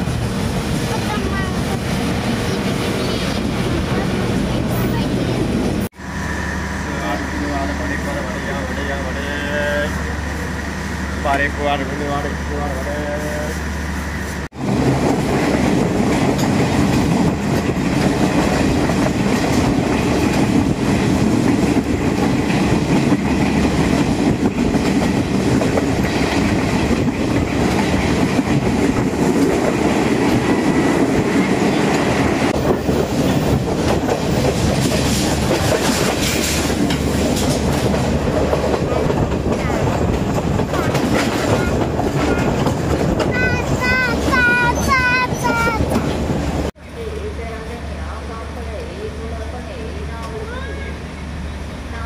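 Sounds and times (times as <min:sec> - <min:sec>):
train wheels on rails: 0:00.0 - 0:52.0.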